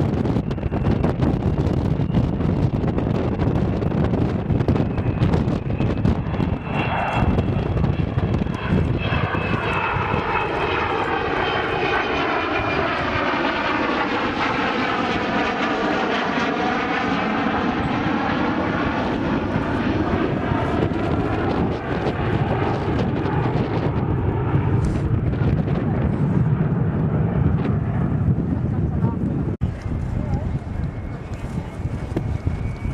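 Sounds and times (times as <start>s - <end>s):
aircraft engine passing by: 0.0s - 32.9s.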